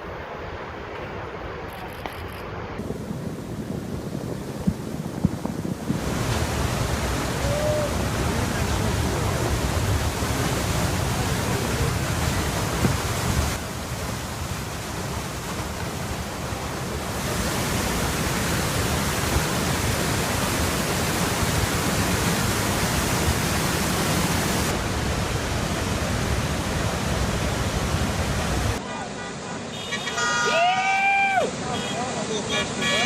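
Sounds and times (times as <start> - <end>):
fast-flowing floodwater rushing: 2.5 - 33.0.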